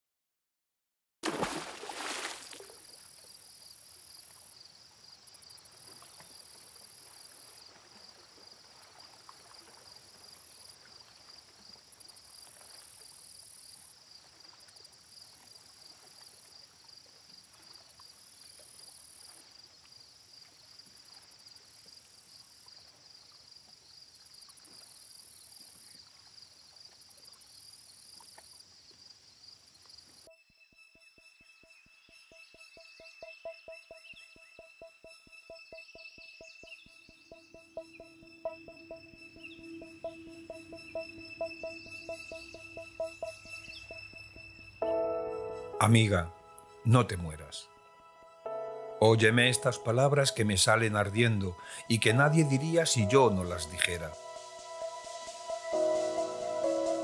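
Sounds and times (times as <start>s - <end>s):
insect buzz: 1.2s - 45.6s, 54.1s - 57.0s
insects trilling: 1.5s - 45.1s, 49.4s - 57.0s.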